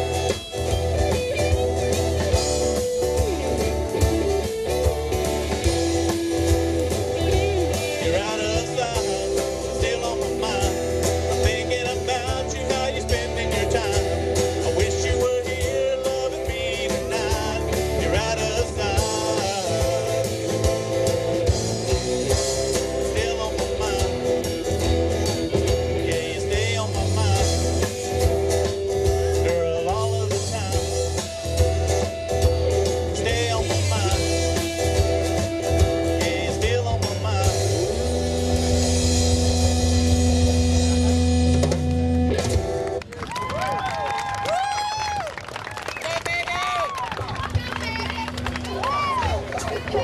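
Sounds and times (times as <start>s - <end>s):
bending lead guitar line: 0.0s - 50.0s
live rock band playing: 0.0s - 50.0s.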